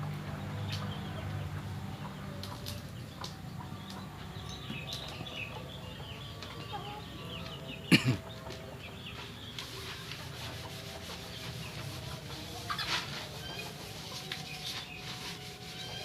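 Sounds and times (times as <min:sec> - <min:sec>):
chickens clucking: 0:00.0 - 0:16.0
small birds chirping: 0:00.0 - 0:16.0.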